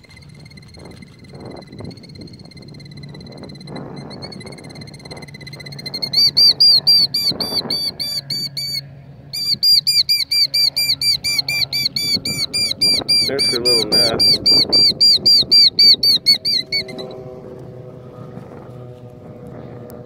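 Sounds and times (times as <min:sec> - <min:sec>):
bird alarm calls: 0:00.1 - 0:17.2.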